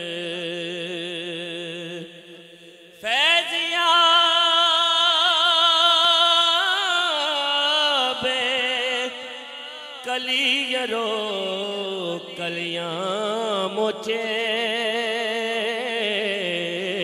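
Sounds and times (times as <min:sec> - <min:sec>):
man chanting with vibrato: 0:00.0 - 0:17.0.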